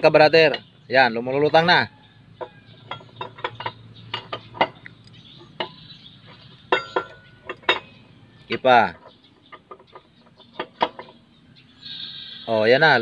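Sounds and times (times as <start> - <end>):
metal tools clinking on engine: 0.0 - 11.4.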